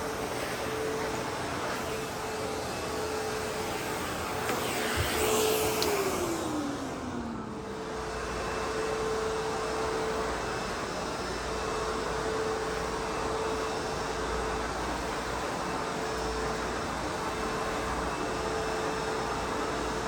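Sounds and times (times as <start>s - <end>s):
backpack vacuum running: 0.0s - 20.0s.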